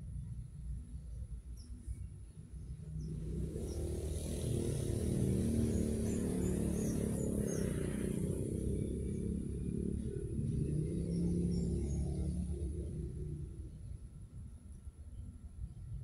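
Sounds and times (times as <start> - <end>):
vehicle engine rumbling: 2.5 - 16.0.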